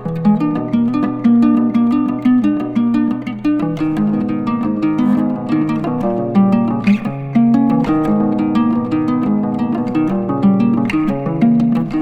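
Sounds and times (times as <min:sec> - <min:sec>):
calm plucked string melody: 0:00.0 - 0:12.0.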